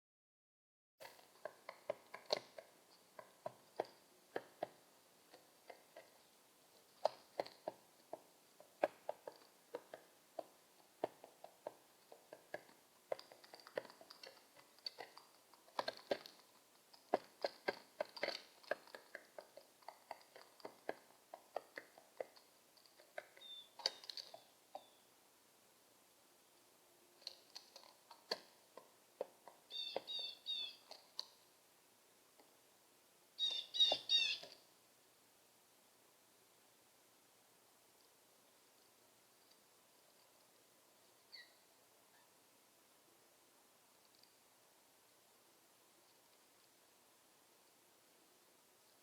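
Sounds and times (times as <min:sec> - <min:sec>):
pigeon pecking seed: 0:01.0 - 0:32.6, 0:33.4 - 0:34.8, 0:37.5 - 0:49.0.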